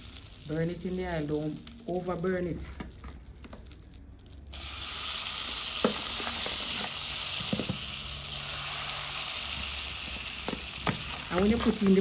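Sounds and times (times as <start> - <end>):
meat sizzling in hot oil: 0.0 - 2.2, 4.4 - 12.0.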